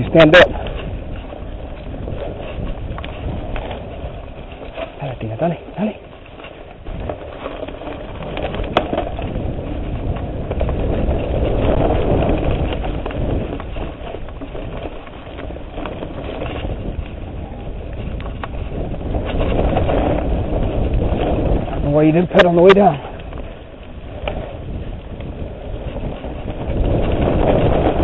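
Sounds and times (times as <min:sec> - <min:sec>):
bike rattling and knocking: 0:00.0 - 0:28.0
tyres rolling on dirt: 0:00.0 - 0:28.0
wind rushing over microphone: 0:00.0 - 0:28.0.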